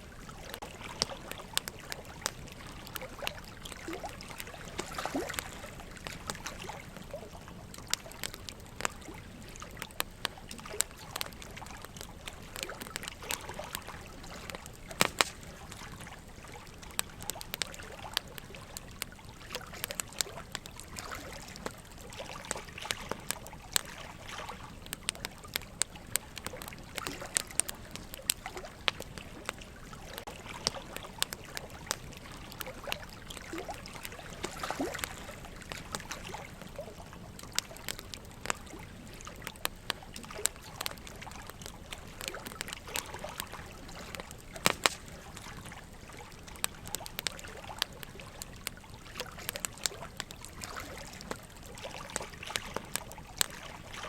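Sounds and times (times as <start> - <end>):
running water trickling: 0.0 - 54.0
wood fire crackling and popping: 0.0 - 54.0.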